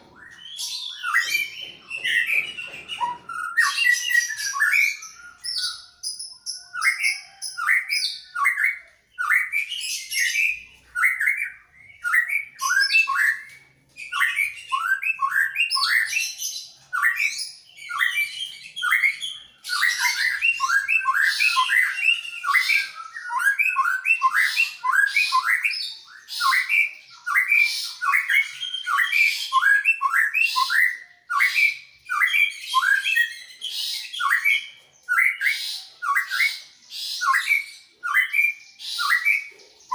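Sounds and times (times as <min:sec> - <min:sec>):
birds singing chirps and whistles: 0:00.0 - 0:39.9.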